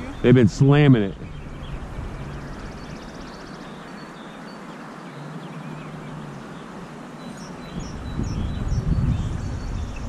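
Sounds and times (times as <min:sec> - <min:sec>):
river water rushing: 0:00.0 - 0:08.2
small birds chirping: 0:00.0 - 0:10.0.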